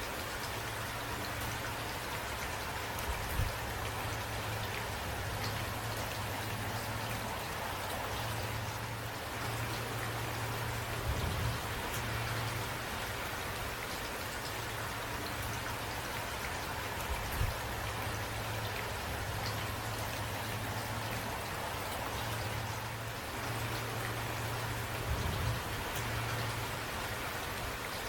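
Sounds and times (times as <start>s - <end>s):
raindrops ticking on a surface: 0.0s - 28.0s
steady rainfall: 0.0s - 28.0s.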